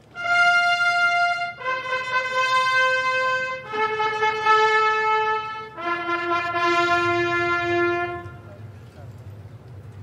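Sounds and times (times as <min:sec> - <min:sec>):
brass band playing a fanfare: 0:00.1 - 0:08.7.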